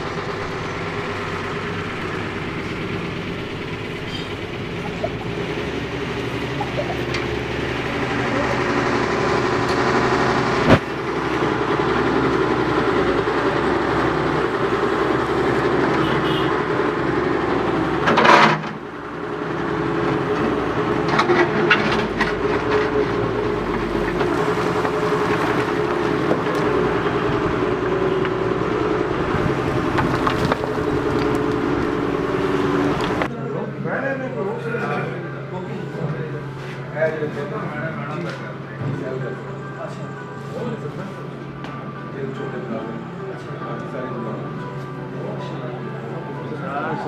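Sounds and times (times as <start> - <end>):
construction machinery rumble: 0.0 - 47.0.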